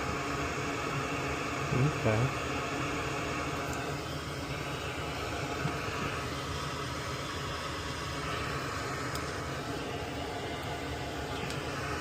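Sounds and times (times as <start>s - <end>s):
blower fan hissing: 0.0s - 12.0s.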